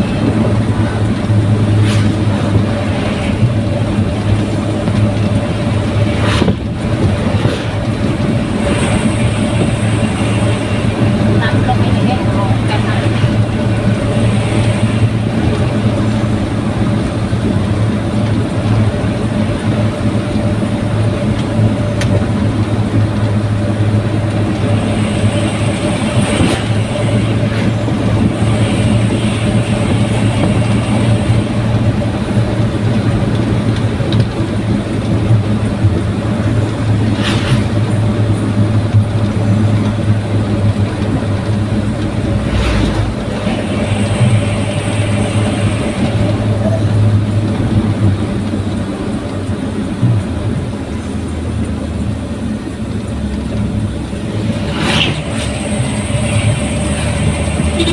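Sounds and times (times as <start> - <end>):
pickup engine droning: 0.0 - 57.9.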